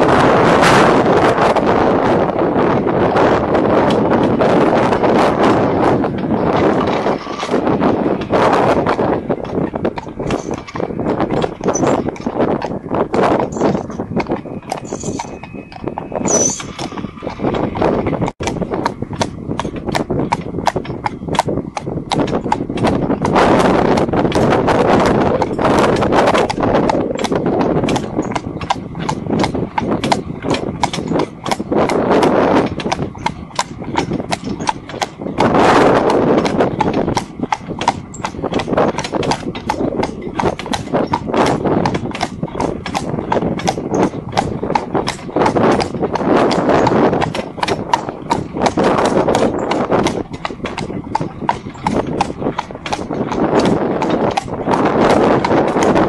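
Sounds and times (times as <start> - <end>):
continuous rushing noise: 0.0 - 56.0
hooves clip-clopping on asphalt: 0.0 - 56.0.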